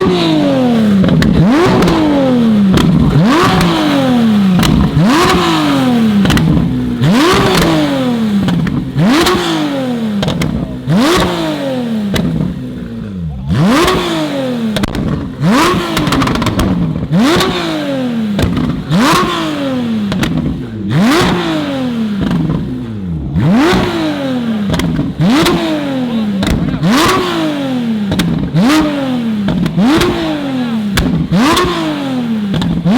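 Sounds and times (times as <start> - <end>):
car engine revving hard: 0.0 - 32.9.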